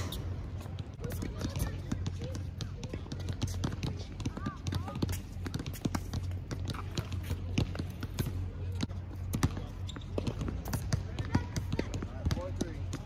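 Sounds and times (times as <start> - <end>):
tennis balls bouncing: 0.0 - 13.0.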